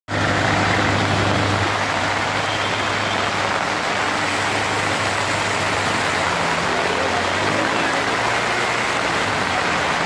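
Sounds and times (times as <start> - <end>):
heavy rain on flooded road: 0.1 - 10.0
vehicle engine running: 0.1 - 10.0.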